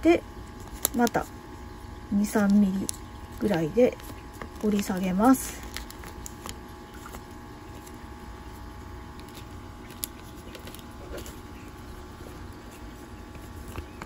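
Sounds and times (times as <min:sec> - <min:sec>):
low room hum: 0:00.0 - 0:14.0
paper rustling and creasing: 0:02.4 - 0:14.0.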